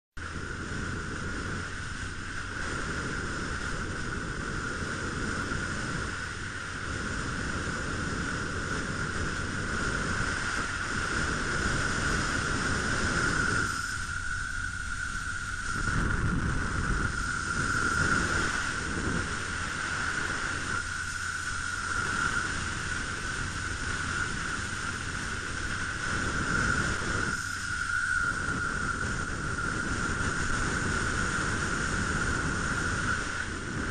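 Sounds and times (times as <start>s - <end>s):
low road rumble: 0.2s - 33.9s
muffled wind rush: 0.2s - 33.9s
steady high hum: 0.2s - 33.9s.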